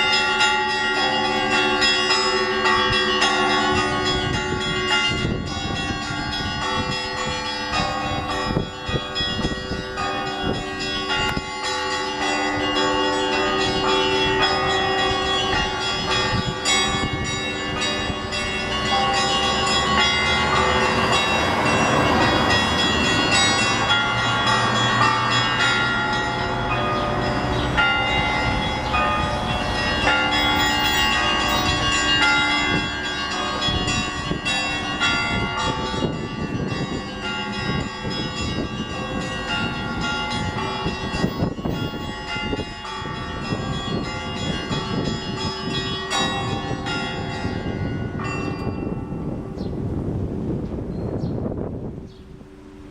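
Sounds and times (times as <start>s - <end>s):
church bells pealing: 0.0s - 52.9s.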